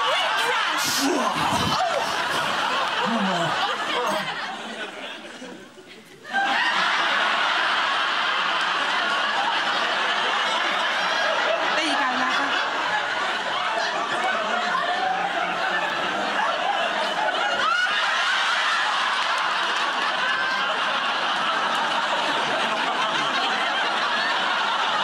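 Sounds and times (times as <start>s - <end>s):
studio audience laughing: 0.0s - 25.0s.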